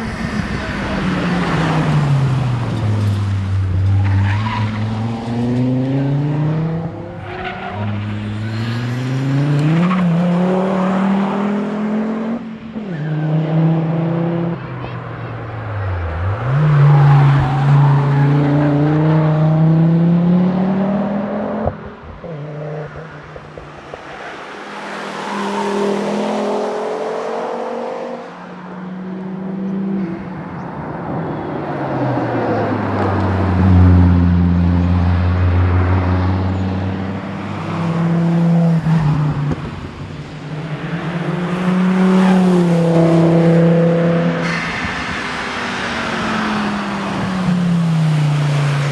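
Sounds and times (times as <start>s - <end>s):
car engine revving: 0.0s - 30.0s, 31.7s - 48.9s.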